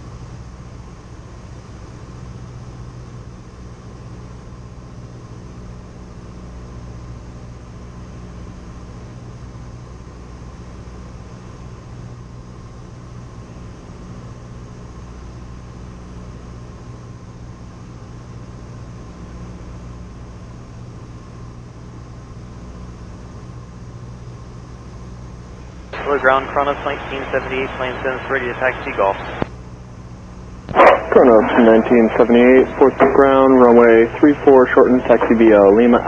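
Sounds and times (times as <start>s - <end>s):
propeller plane engine drone: 0.0s - 36.0s.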